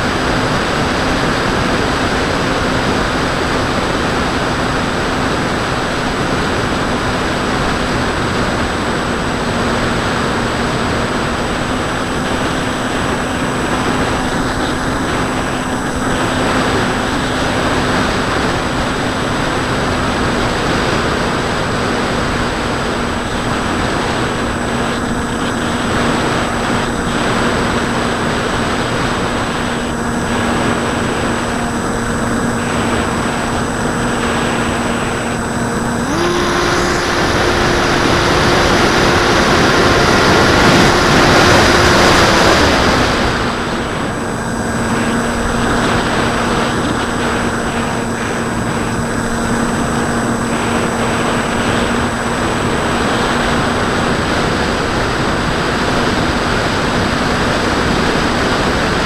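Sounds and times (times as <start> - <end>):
electric motor humming: 0.0 - 59.0
heavy wind rush: 0.0 - 59.0.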